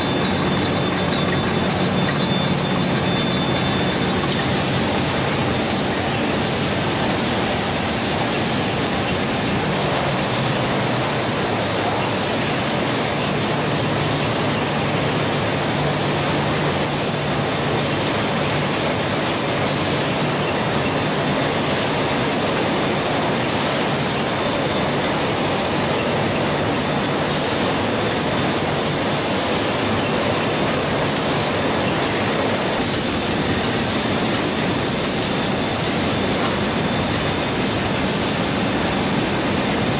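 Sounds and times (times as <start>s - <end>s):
processing machinery clatter and hum: 0.0s - 39.9s.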